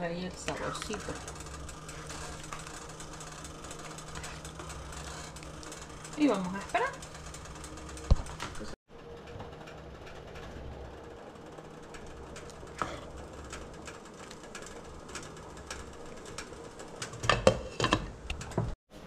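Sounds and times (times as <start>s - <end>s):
pot clicking and ticking: 0.0s - 8.8s, 11.8s - 18.7s.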